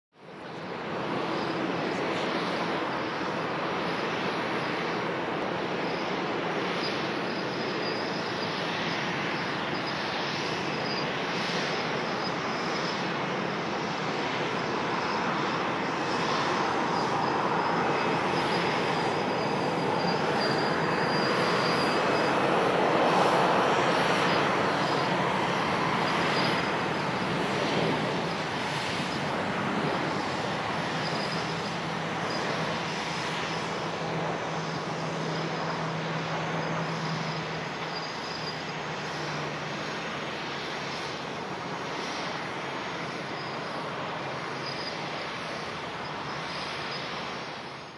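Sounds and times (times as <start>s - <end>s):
jet engines rushing on landing: 0.2s - 47.9s.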